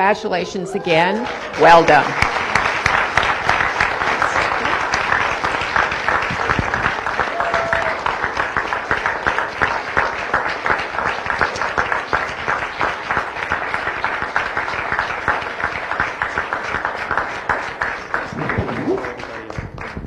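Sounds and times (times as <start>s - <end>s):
crowd applauding: 0.7s - 20.0s.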